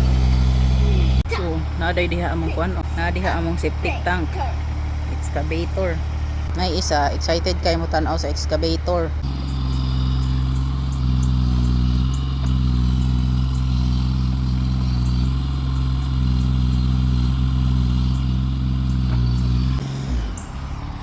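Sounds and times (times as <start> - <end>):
heavy equipment engine droning: 0.0 - 21.0.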